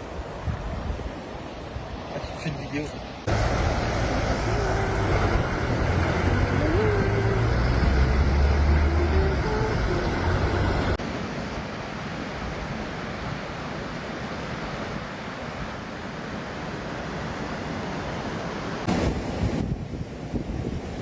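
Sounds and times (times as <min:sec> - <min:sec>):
water rushing: 0:01.2 - 0:19.6.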